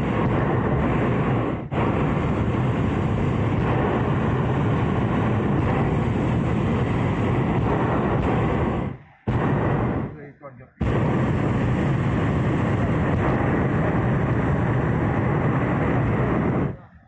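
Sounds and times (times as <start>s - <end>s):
propane burner roaring: 0.0s - 10.2s, 10.8s - 17.0s.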